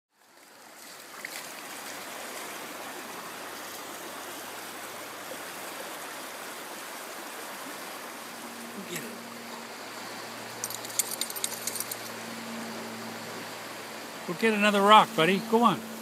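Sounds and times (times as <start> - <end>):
creek babbling over rocks: 0.1 - 16.0.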